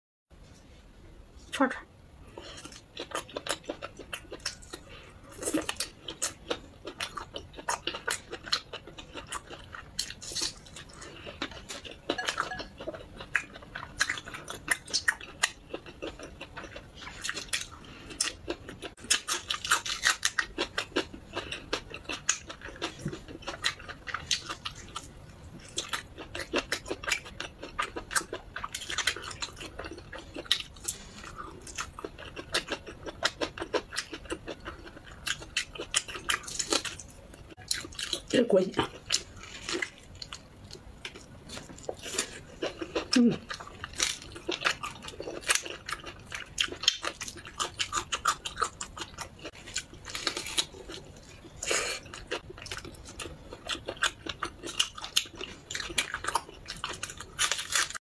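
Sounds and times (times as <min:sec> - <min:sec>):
close-up chewing: 0:02.3 - 0:58.0.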